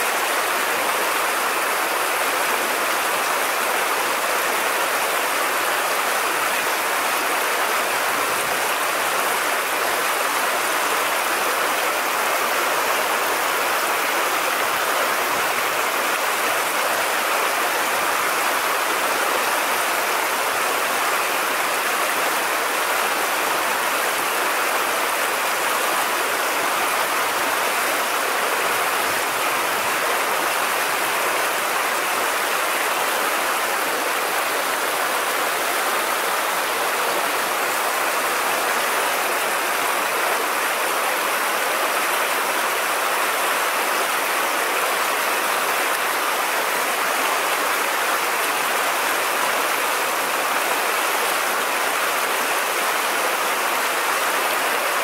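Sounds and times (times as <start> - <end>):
river water flowing over riffle: 0.0 - 55.0.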